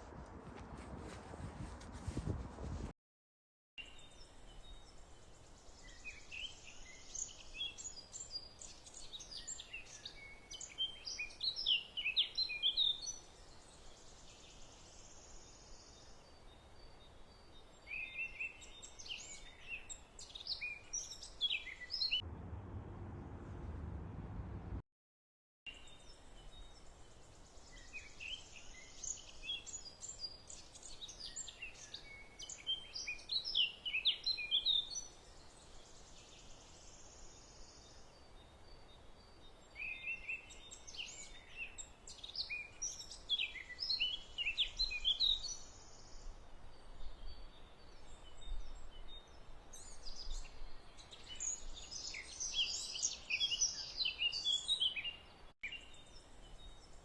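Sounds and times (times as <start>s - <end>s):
faint steady hiss: 3.8s - 21.4s, 25.8s - 57.0s
small birds singing: 3.8s - 22.2s, 25.7s - 57.0s.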